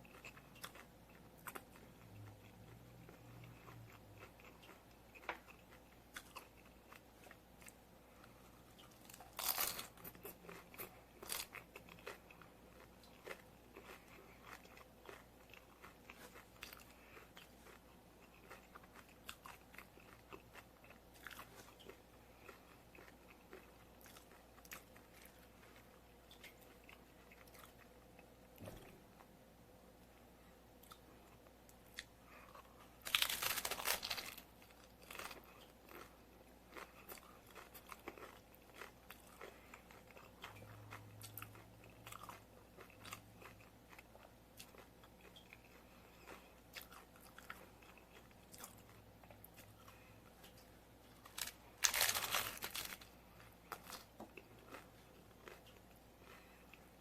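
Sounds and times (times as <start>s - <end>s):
chewing crunchy taco shells: 0.0s - 29.4s, 30.7s - 57.0s.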